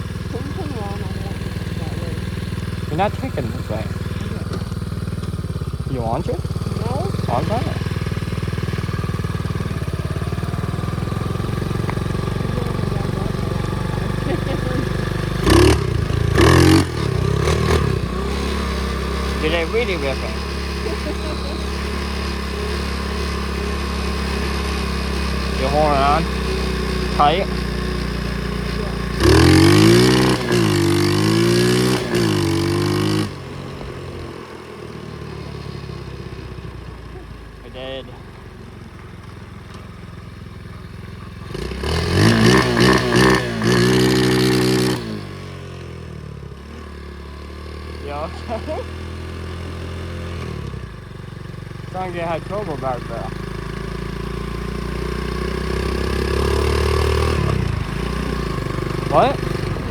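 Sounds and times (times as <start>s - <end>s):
small motorbike engine running: 0.0s - 59.9s.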